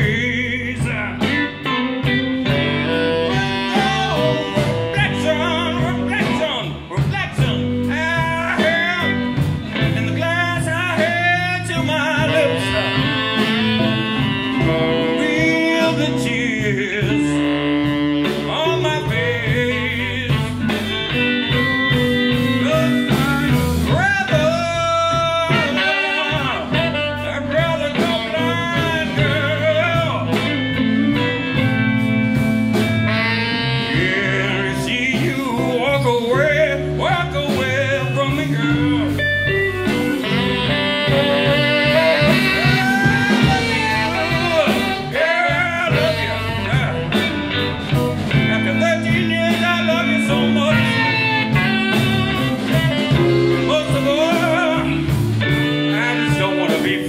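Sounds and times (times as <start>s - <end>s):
bass and drums: 0.0s - 57.0s
electric guitar: 0.0s - 57.0s
saxophone: 0.0s - 57.0s.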